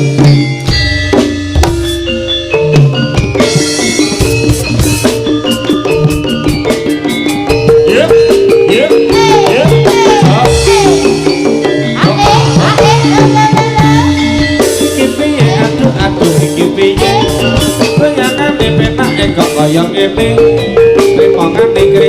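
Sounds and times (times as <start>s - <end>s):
drums keeping steady beat: 0.0s - 22.0s
metallophone and gong notes: 0.0s - 22.0s
sliding melody line: 0.0s - 22.0s.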